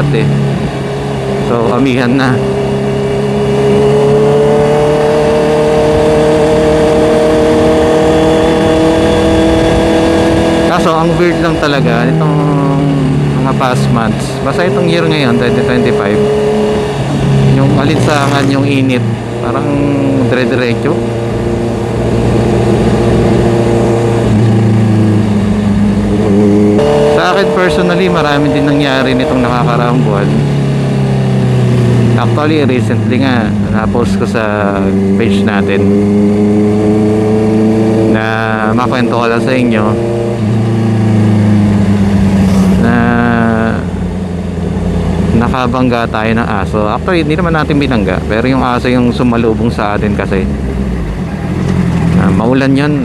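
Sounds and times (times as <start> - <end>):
motorcycle engine rising in pitch: 0.0 - 53.0.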